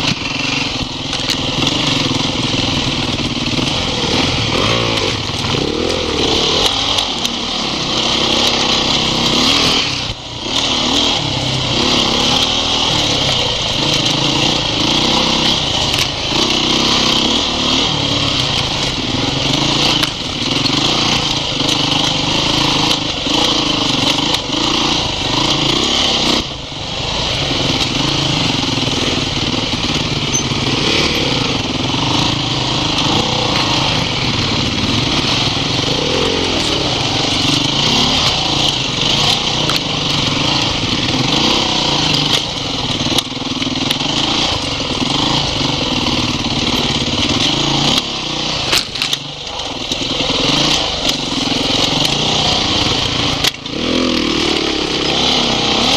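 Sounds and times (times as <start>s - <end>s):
off-road motorcycle engines revving: 0.0s - 55.9s.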